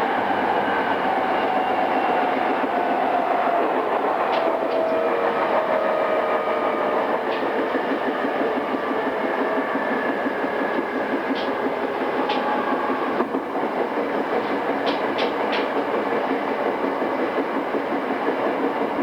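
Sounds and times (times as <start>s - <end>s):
train motor whine: 0.0s - 16.0s
wheels clattering on rail: 0.0s - 19.0s.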